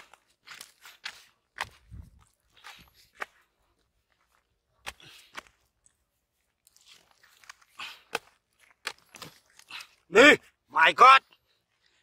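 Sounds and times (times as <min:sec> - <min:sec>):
dry mud clods crunching: 0:00.0 - 0:12.0.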